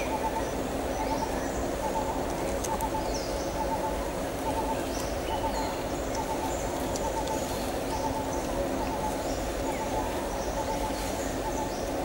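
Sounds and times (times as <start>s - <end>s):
forest hiss: 0.0s - 12.0s.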